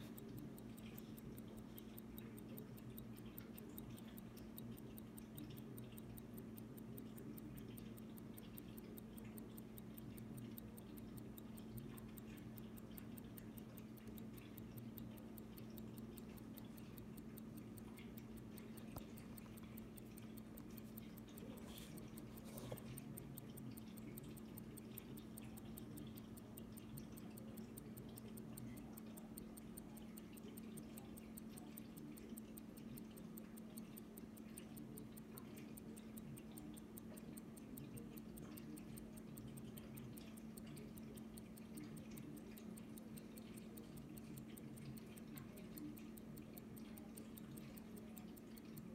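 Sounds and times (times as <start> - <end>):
pocket watch ticking: 0.0 - 48.9.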